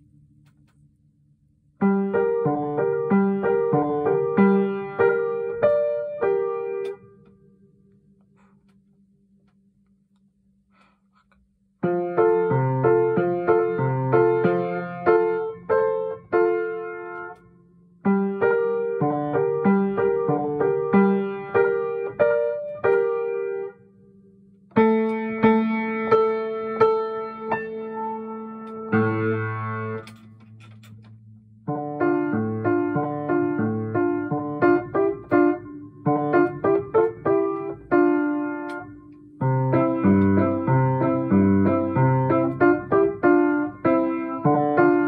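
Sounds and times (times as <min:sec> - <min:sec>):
piano playing: 0:01.8 - 0:07.4, 0:11.8 - 0:23.9, 0:24.7 - 0:31.0, 0:31.6 - 0:45.0.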